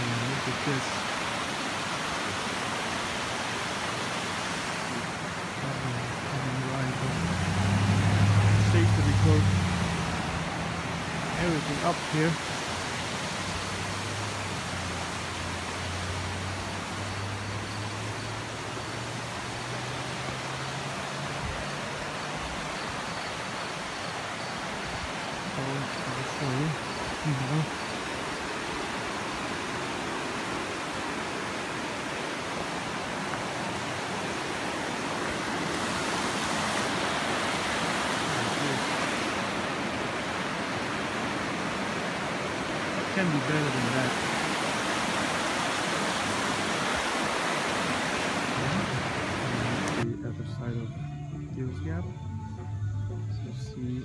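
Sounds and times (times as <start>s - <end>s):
fast-flowing water rushing: 0.0s - 50.1s
road and wind noise: 0.0s - 50.3s
low engine hum: 4.6s - 54.0s.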